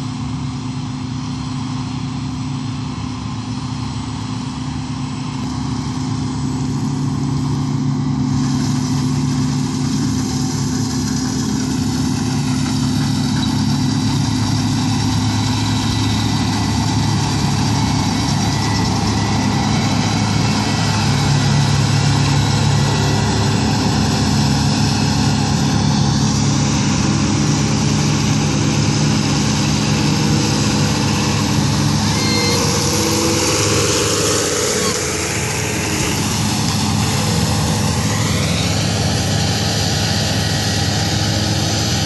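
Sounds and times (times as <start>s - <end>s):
combine harvester running: 0.0s - 42.0s
tractor engine: 0.0s - 42.0s.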